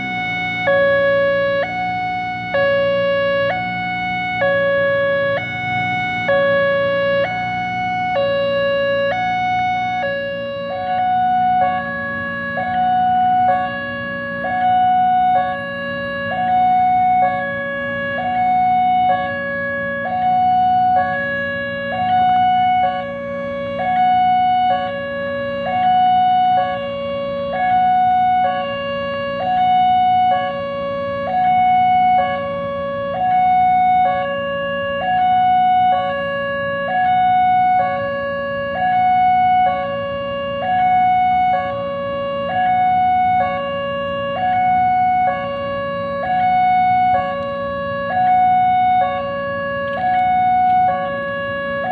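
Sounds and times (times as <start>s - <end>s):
two-tone level crossing siren: 0.0s - 51.9s.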